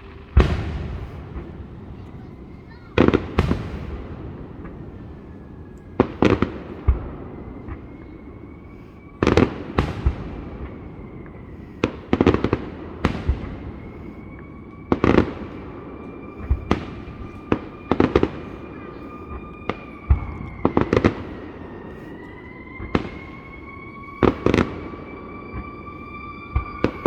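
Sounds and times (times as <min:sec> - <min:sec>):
echoing rumble: 0:00.0 - 0:27.0
fireworks booming: 0:00.0 - 0:27.0.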